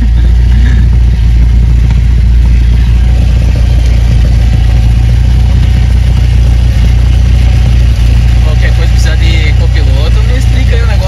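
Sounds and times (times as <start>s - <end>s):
airplane engine drone in cockpit: 0.0s - 11.0s.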